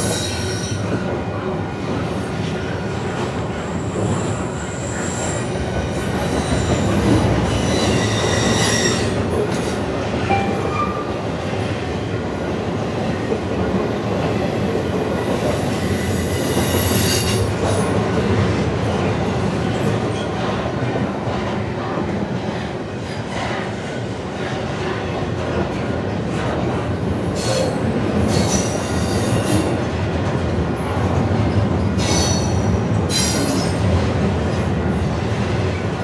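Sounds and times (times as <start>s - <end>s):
freight train rumbling: 0.0s - 36.0s.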